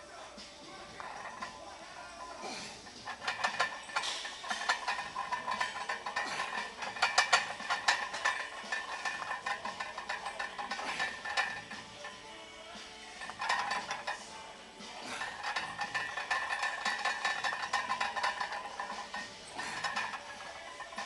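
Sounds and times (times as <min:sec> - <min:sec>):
weight plates clinking on barbell: 0:00.8 - 0:01.6, 0:02.2 - 0:12.3, 0:13.1 - 0:14.4, 0:15.0 - 0:21.0.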